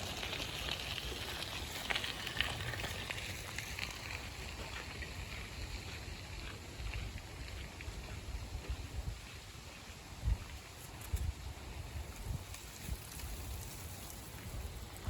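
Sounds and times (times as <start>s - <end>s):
light crackling rustle: 0.0s - 15.0s.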